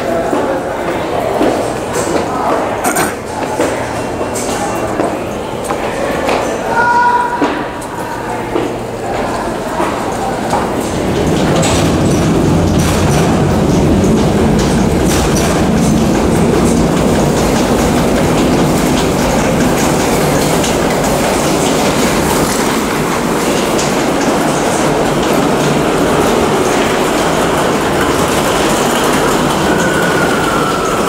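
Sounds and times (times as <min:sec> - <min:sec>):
subway train rumbling on track: 0:00.0 - 0:31.0.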